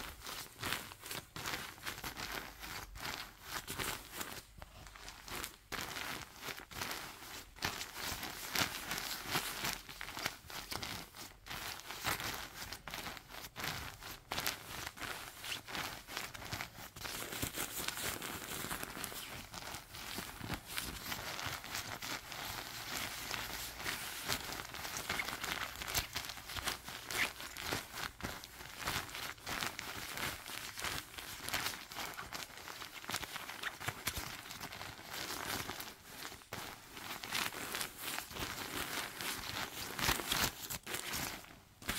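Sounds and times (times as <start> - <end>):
nylon jacket crinkling: 0.0 - 41.9.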